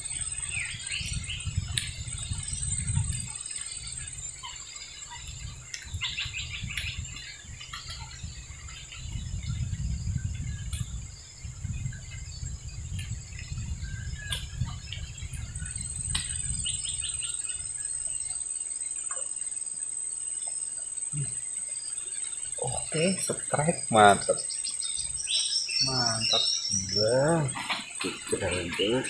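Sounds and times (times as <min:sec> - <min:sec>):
birds chirping: 0:00.0 - 0:29.0
high-pitched insect drone: 0:00.0 - 0:29.0.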